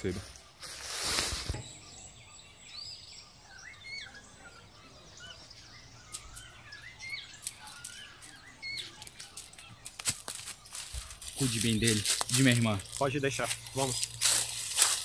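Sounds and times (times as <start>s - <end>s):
birds chirping and singing: 0.0s - 15.0s
faint outdoor background noise: 0.0s - 15.0s.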